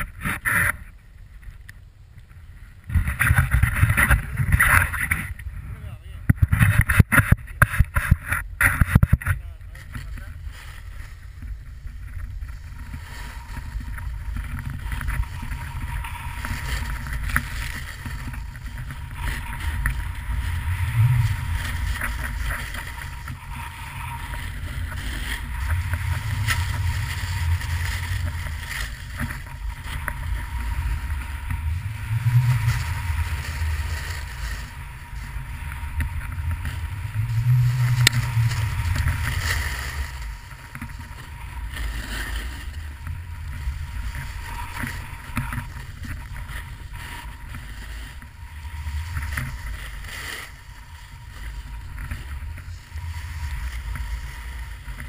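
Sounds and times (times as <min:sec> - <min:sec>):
snowboard scraping over snow: 0:02.7 - 0:55.0
wind on microphone: 0:02.7 - 0:55.0.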